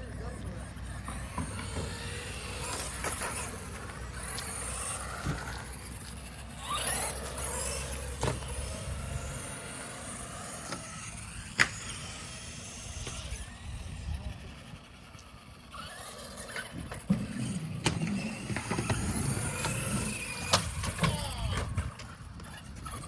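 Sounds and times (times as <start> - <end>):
electric motors whining: 0.0 - 23.0
rolling tyre noise: 0.0 - 23.0.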